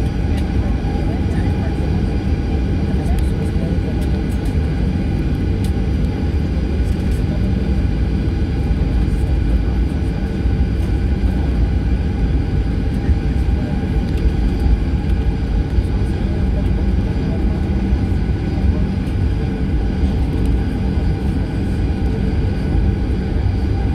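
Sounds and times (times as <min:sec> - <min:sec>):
constant hums: 0:00.0 - 0:23.9
jet engines rumbling: 0:00.0 - 0:23.9.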